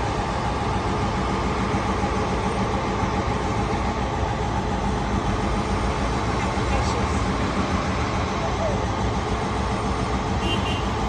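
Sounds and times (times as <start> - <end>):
city vehicle rumble: 0.0 - 11.0.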